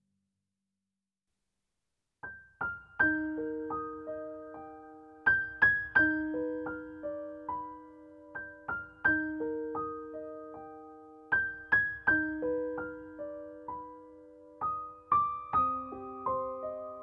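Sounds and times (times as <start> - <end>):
piano melody: 2.3 - 17.0.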